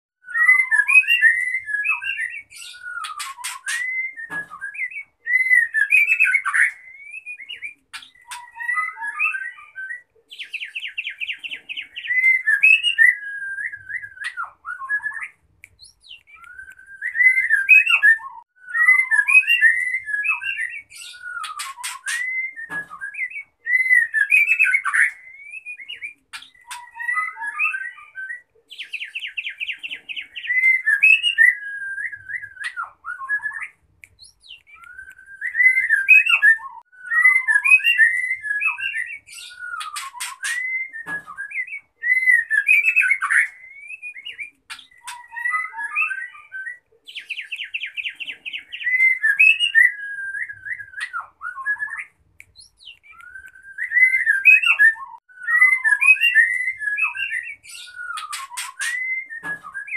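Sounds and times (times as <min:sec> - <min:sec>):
bird singing whistled phrases: 0:00.2 - 0:59.9.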